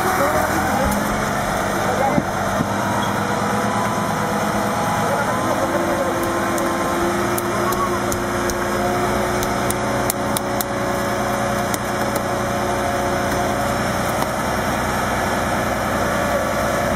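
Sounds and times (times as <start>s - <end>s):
ship engine droning: 0.0s - 16.9s.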